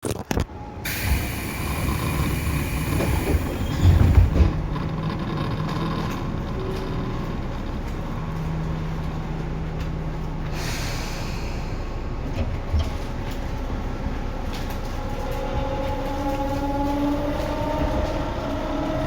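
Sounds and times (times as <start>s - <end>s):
train interior rumble: 0.0s - 19.0s.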